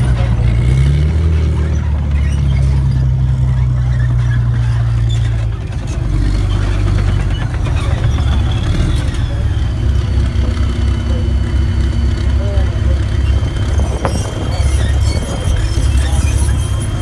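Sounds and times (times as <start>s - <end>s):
tank diesel engine drone: 0.0s - 17.0s.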